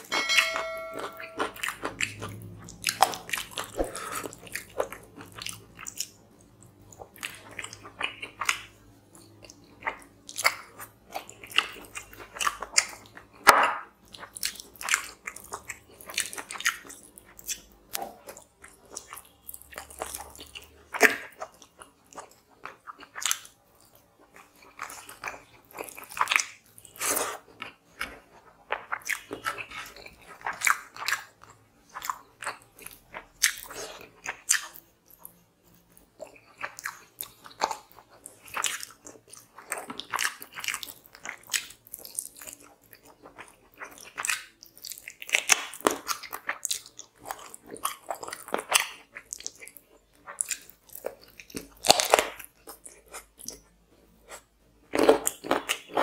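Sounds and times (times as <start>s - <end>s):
man chewing and mouth noises: 1.5s - 56.0s.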